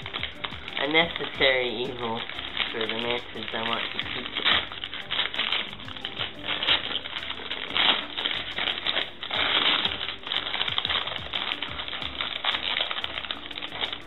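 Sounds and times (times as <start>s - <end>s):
newspaper crumpling: 0.0s - 14.0s.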